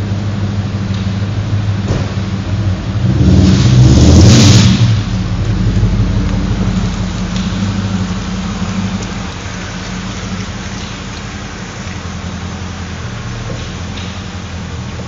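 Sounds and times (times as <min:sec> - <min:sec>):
car engine low note: 0:00.0 - 0:15.0
spinning tyres hissing: 0:00.0 - 0:15.0.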